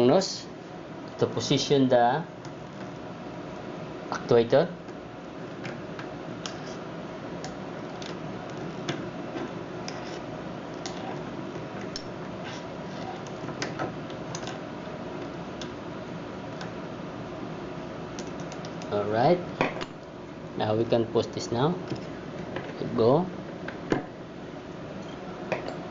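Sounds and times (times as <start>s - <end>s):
steady background hiss: 0.0s - 25.9s.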